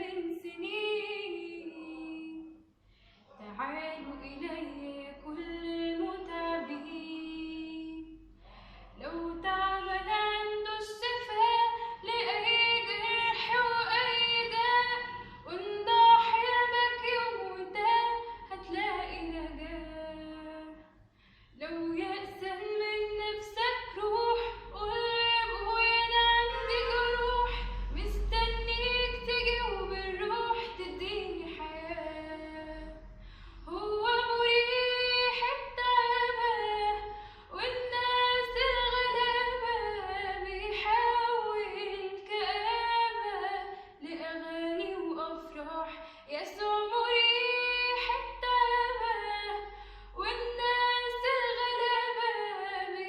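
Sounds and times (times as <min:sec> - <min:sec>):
woman singing a hymn unaccompanied: 0:00.0 - 0:02.6, 0:03.4 - 0:08.2, 0:09.0 - 0:20.9, 0:21.6 - 0:53.0.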